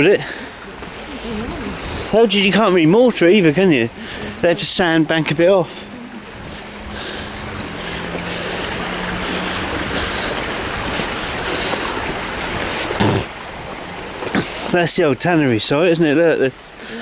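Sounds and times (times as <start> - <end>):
river flowing fast: 0.0 - 17.0.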